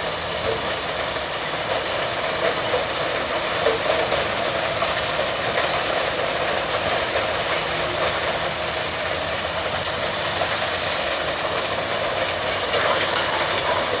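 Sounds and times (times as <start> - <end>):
broken stone rattling on conveyors: 0.0 - 14.0
rubble crusher crushing concrete: 1.6 - 14.0.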